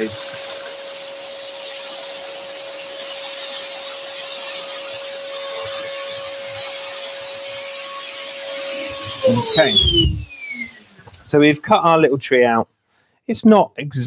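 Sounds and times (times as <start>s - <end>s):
scroll saw cutting wood: 0.0s - 12.0s.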